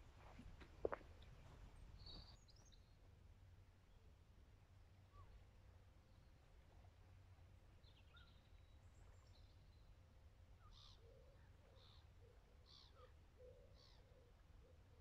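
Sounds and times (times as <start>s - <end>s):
low steady background rumble: 0.0s - 15.0s.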